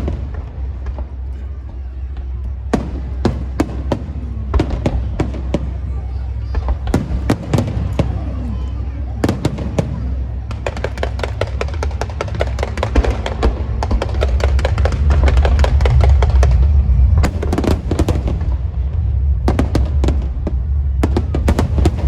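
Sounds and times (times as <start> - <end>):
firecrackers crackling: 0.0 - 22.0
low rumble: 0.0 - 22.0.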